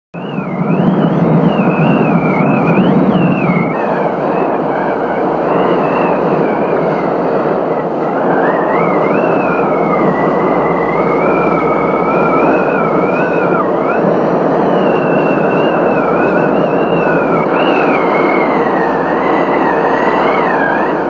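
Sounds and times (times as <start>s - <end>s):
strong wind on camera: 0.1s - 21.0s
thin wavering whistle: 0.2s - 21.0s.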